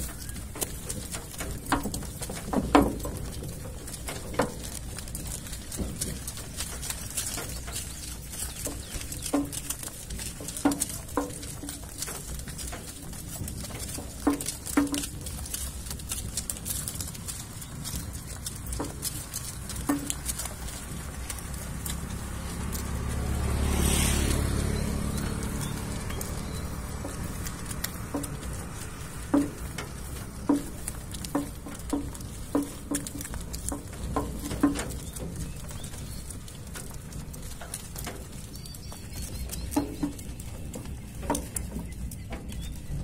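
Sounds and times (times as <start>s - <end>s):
cart rattling rumble: 0.0s - 43.0s
hooves and wooden cart knocks: 0.0s - 43.0s.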